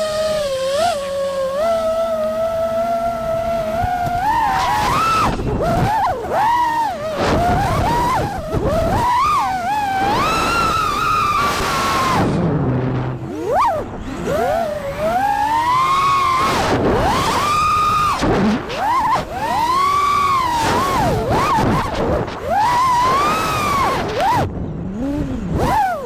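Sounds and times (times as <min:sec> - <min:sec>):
drone propellers whining: 0:00.0 - 0:26.0.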